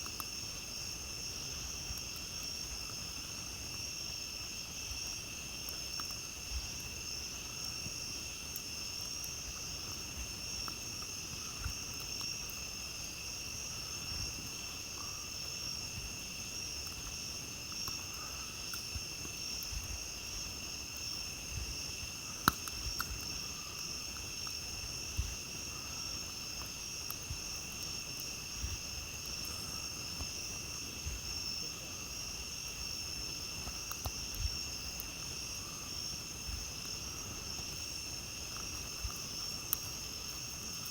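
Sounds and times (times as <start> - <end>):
campfire crackling: 0.0 - 40.9
crickets and night insects: 0.0 - 40.9.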